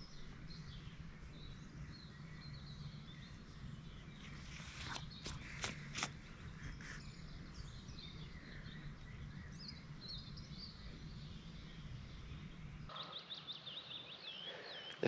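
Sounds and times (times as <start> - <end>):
steady low rumble: 0.0 - 12.9
small birds singing: 0.0 - 15.0.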